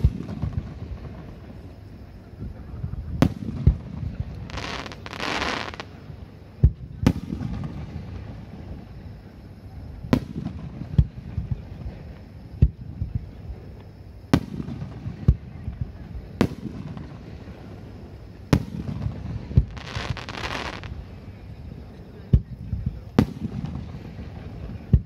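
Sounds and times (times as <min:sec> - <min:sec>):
firework hiss: 0:00.0 - 0:13.6, 0:14.2 - 0:25.0.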